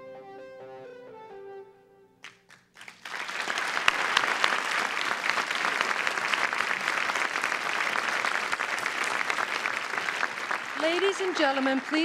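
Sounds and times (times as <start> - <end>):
audience applause: 2.2 - 12.0.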